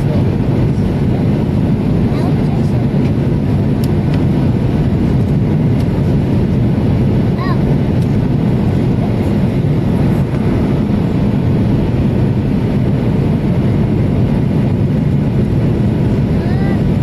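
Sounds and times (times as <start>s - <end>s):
jet airliner cabin roar: 0.0s - 17.0s.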